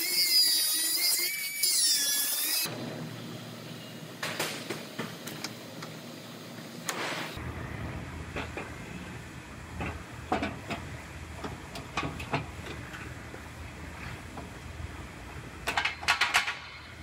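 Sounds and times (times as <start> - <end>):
workshop background hum: 0.0 - 17.0.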